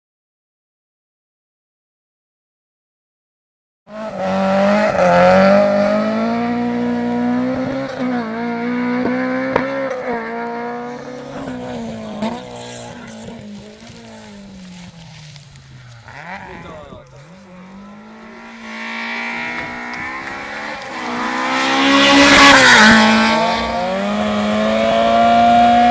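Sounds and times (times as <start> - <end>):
rally car engine revving: 3.9 - 25.9.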